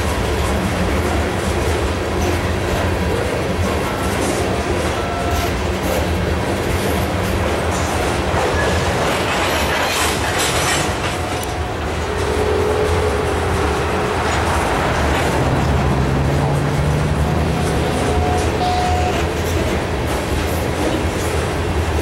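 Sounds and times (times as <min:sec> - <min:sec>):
freight train rumble: 0:00.0 - 0:22.0
wheels clacking over rail joints: 0:00.0 - 0:22.0.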